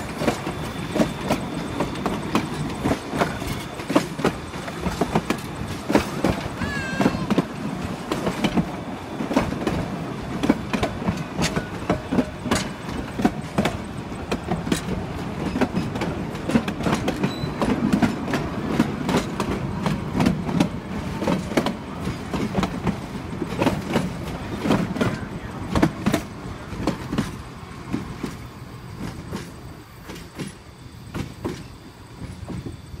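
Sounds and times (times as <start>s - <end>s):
train wheels clattering over joints: 0.0s - 33.0s.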